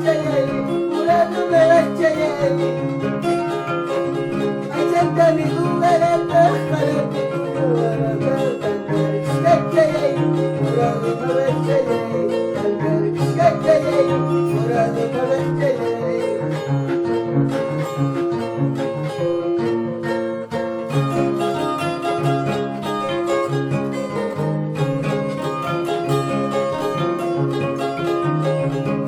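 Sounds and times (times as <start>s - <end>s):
plucked bass line: 0.0s - 29.0s
plucked harp melody: 0.0s - 29.0s.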